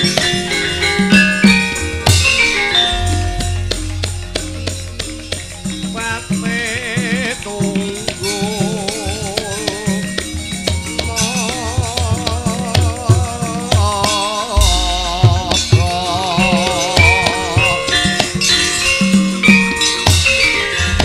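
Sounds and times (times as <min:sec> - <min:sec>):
drum strokes: 0:00.0 - 0:21.0
gamelan music: 0:00.0 - 0:21.0
sharp percussive clicks: 0:00.0 - 0:21.0.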